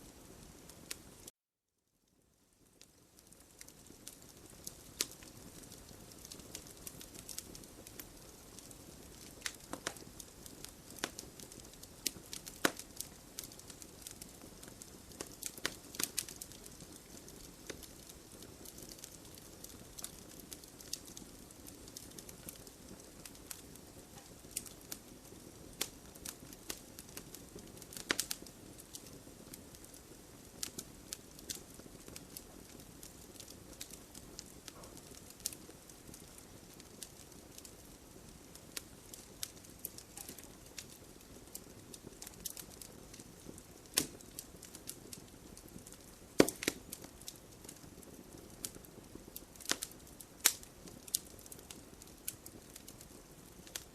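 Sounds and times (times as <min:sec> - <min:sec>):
wood crackling and popping: 0:00.0 - 0:01.3, 0:02.5 - 0:53.9
fire hissing: 0:03.2 - 0:52.4.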